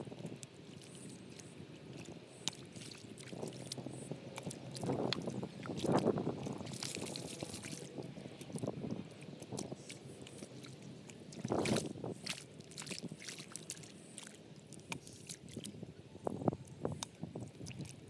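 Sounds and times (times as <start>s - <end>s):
hands squelching through wet mud: 0.0s - 15.8s, 16.5s - 18.0s.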